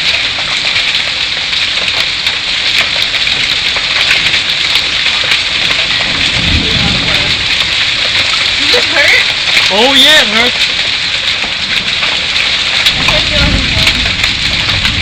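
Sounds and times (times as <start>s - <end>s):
hail clattering: 0.0s - 15.0s.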